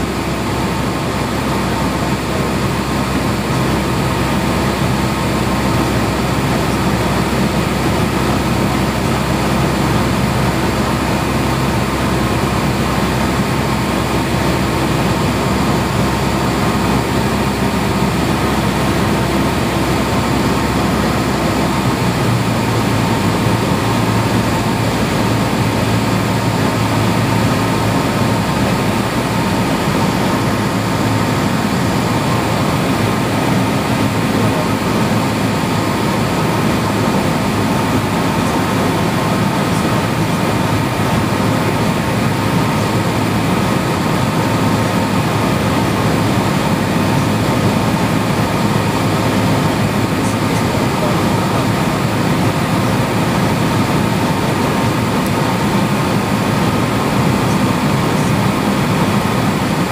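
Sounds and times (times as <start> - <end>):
light aircraft engine drone: 0.0 - 59.9.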